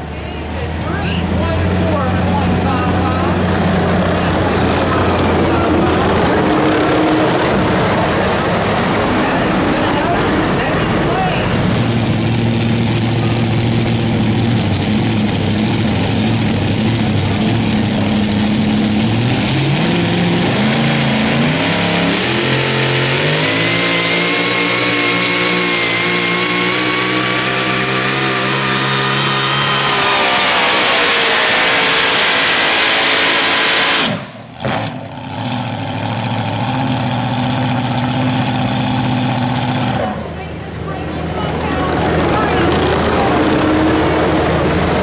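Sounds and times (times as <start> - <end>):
engine revving high: 0.9 - 40.4.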